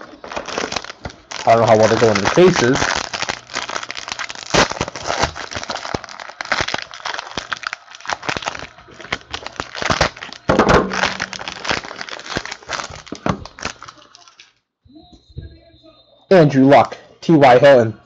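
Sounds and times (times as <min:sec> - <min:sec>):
foil wrappers crinkling and tearing: 0:00.0 - 0:14.6.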